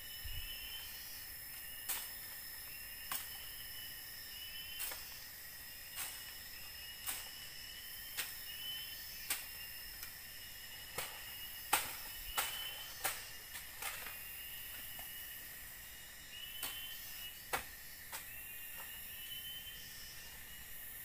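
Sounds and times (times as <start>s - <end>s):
insect chorus trilling: 0.0s - 21.0s.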